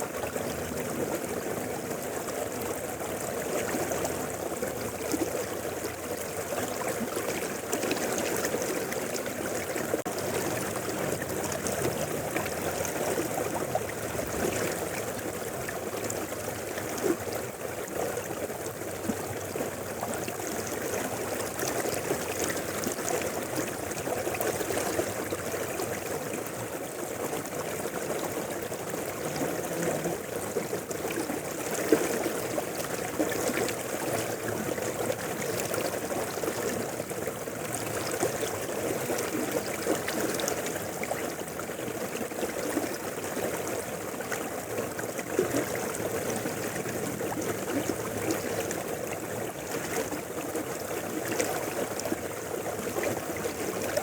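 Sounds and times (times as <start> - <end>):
river flowing over stones: 0.0 - 54.0.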